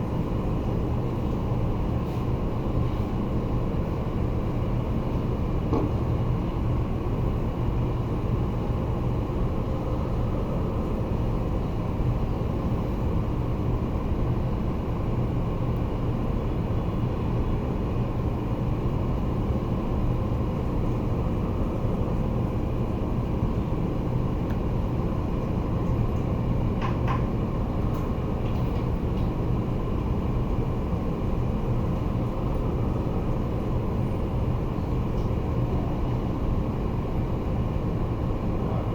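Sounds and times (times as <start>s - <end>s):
low machine drone with hum: 0.0s - 38.9s.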